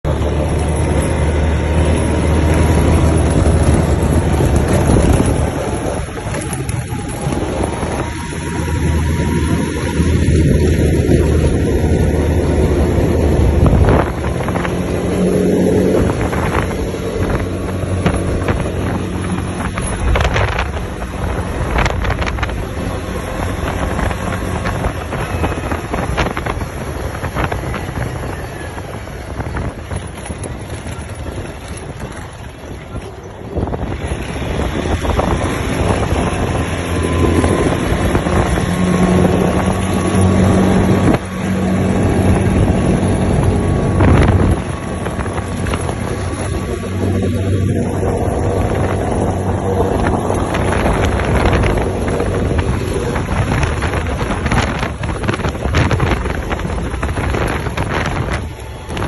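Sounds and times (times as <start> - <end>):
atv engine running: 0.0 - 59.0
wind rushing over microphone: 0.0 - 59.0.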